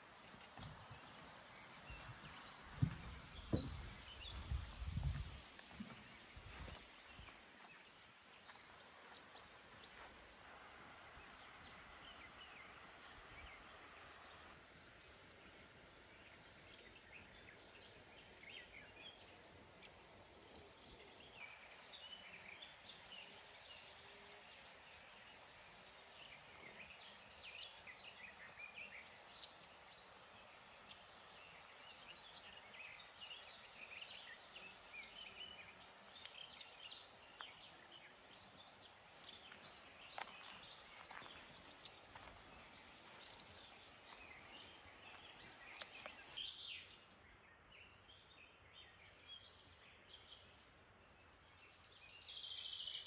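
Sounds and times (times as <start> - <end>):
low ambient hiss: 0.0 - 53.0
small birds chirping: 0.0 - 53.0.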